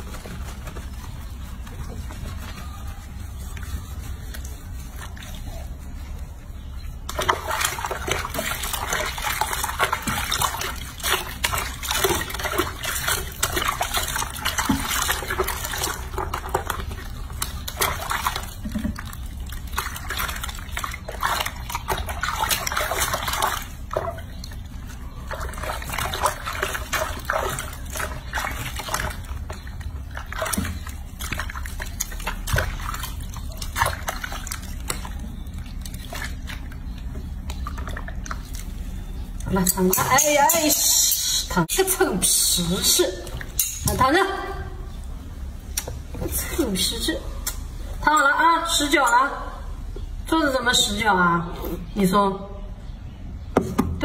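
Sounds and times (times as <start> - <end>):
water sloshing and splashing: 0.0 - 52.0.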